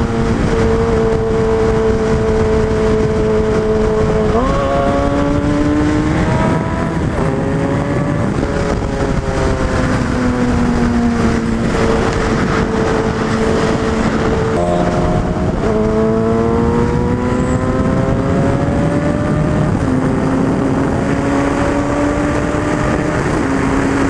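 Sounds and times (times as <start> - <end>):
constant rushing noise: 0.0 - 24.0
motorcycle engine revving: 0.0 - 24.0.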